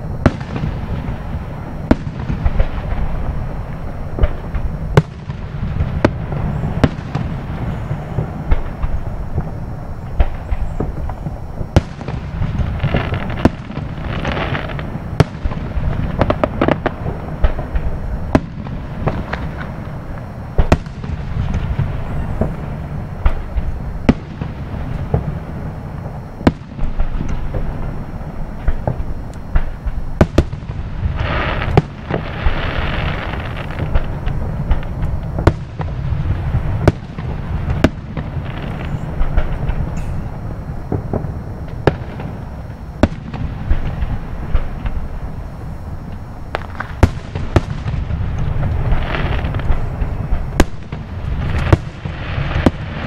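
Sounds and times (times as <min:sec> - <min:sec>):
distant fireworks bangs: 0:00.0 - 0:53.0
fireworks crackling: 0:00.0 - 0:53.0
steady low rumble: 0:00.0 - 0:53.0.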